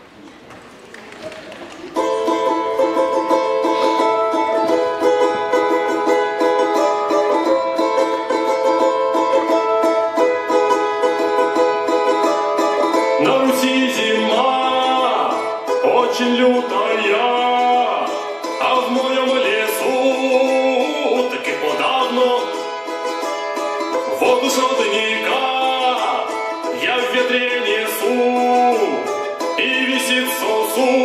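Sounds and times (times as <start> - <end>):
dance music with plucked strings: 2.0 - 30.8.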